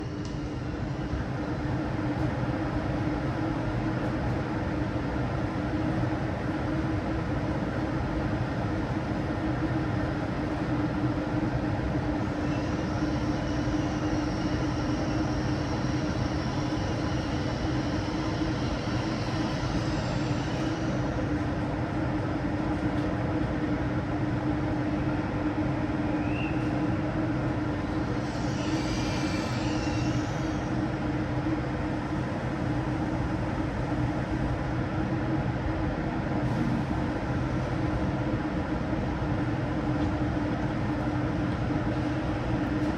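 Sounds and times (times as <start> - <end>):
high-speed train rumble: 0.0 - 42.9.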